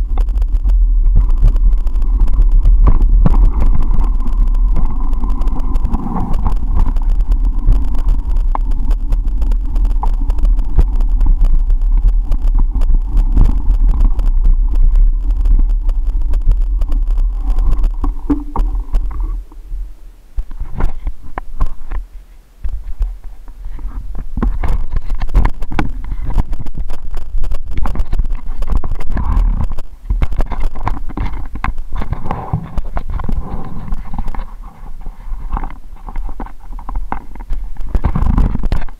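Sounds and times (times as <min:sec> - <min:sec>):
low rumble of motion and wind: 0:00.0 - 0:38.9.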